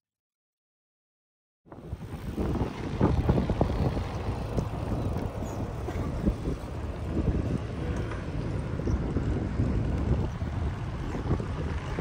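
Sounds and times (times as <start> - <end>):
wind buffeting microphone: 1.7 - 12.0.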